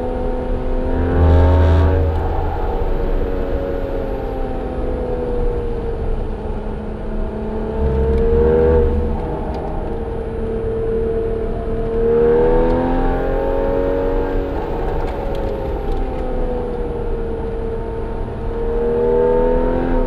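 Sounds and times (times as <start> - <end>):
sports car engine: 0.0 - 20.0.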